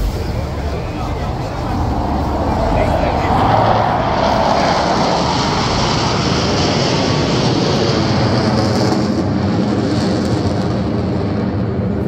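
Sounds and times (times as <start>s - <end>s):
jets flying overhead: 0.0s - 12.0s.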